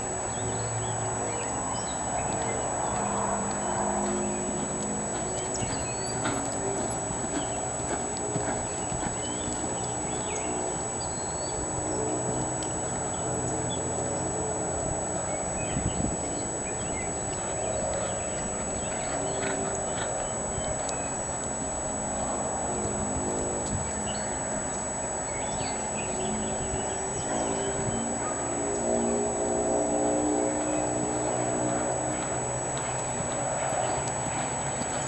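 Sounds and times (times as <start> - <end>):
steady noisy background: 0.0 - 35.0
horse hoofbeats on dirt: 0.3 - 28.6, 30.2 - 35.0.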